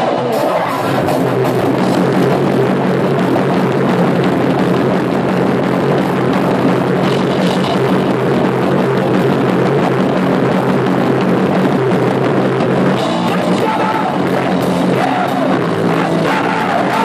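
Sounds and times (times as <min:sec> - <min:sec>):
metal band playing live: 0:00.0 - 0:17.0.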